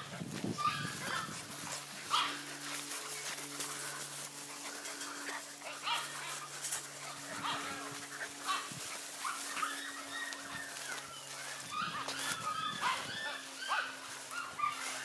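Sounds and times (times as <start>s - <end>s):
puppies yipping and whimpering: 0.0s - 15.0s
steady low hum: 0.0s - 15.0s.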